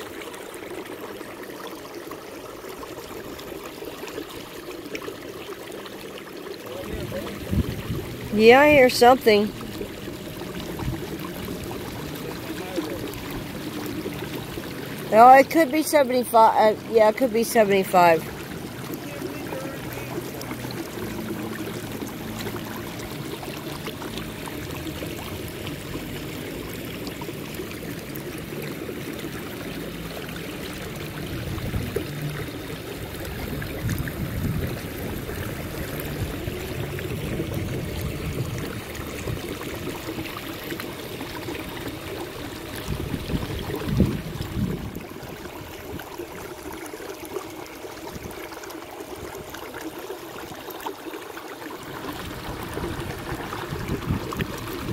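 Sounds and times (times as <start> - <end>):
paddle blades dipping and dripping: 0.0 - 54.9
water lapping around kayak: 0.0 - 54.9.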